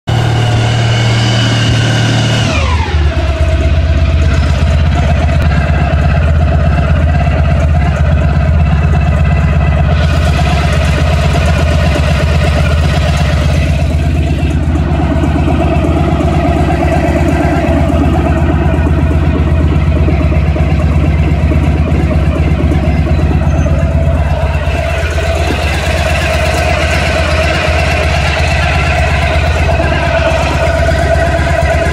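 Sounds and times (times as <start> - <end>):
rattling near engine: 0.0 - 31.9
motorcycle engine idling: 0.1 - 31.9.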